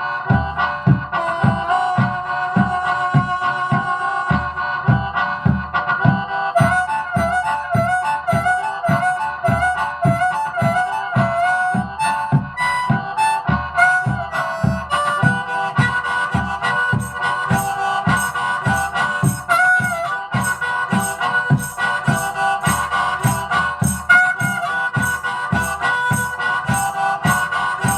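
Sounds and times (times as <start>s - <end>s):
harmonica minor-key melody: 0.0s - 27.9s
low thumping beat: 0.0s - 27.9s.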